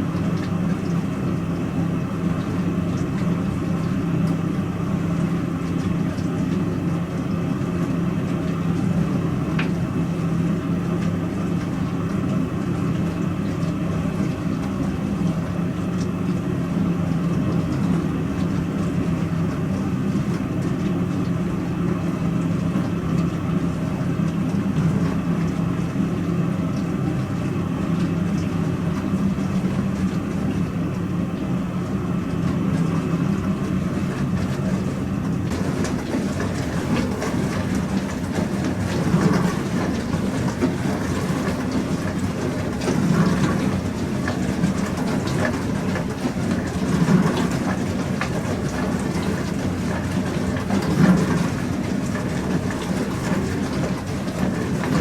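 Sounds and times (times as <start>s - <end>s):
dishwasher motor hum: 0.0s - 55.0s
rushing wash water: 0.0s - 55.0s.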